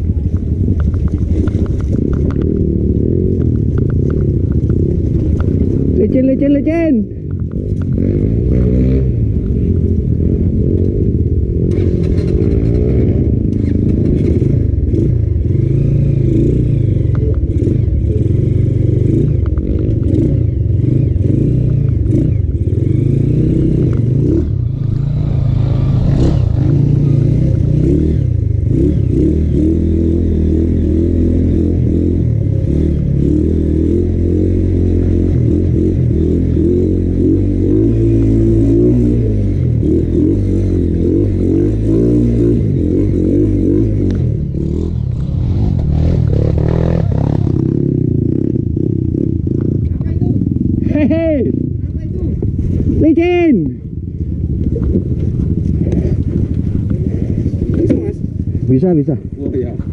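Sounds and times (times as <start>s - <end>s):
motorcycle clattering over bumps: 0.0s - 6.1s, 7.2s - 51.0s, 53.7s - 59.9s
motorcycle engine running: 0.0s - 59.9s.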